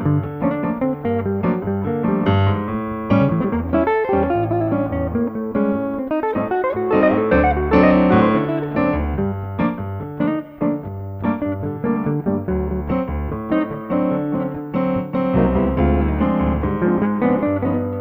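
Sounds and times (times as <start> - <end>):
digital piano playing: 0.0 - 18.0
electric guitar playing: 0.0 - 18.0.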